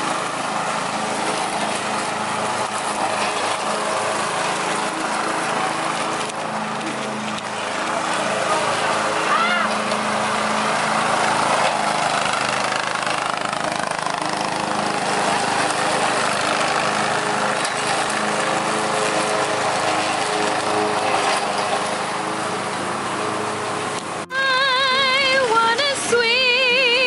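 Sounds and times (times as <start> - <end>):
cutting deck rushing: 0.0 - 24.2
lawn mower engine running: 0.0 - 27.0.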